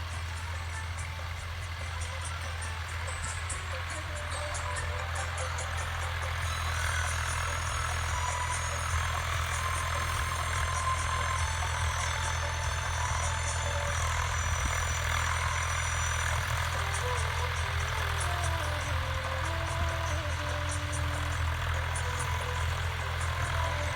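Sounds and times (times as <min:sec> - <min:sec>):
heavy diesel engine running: 0:00.0 - 0:23.9
high-pitched whining tones: 0:00.0 - 0:23.9.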